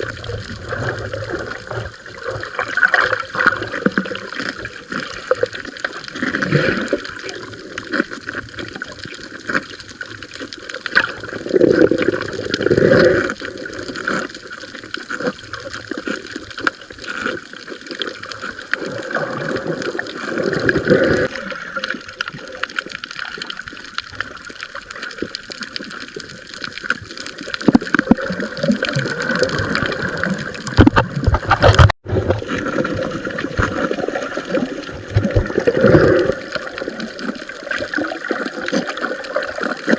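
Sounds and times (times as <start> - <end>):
underwater water gurgling and sloshing: 0.0 - 39.9.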